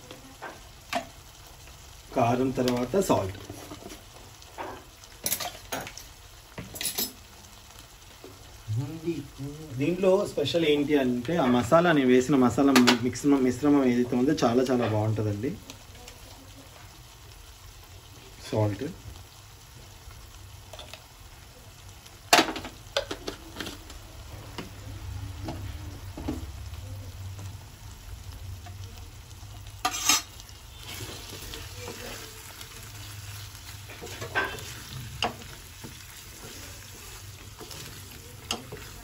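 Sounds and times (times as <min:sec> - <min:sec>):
curry sizzling in a pan: 0:00.0 - 0:39.0
wooden spatula stirring a pan: 0:00.0 - 0:39.0.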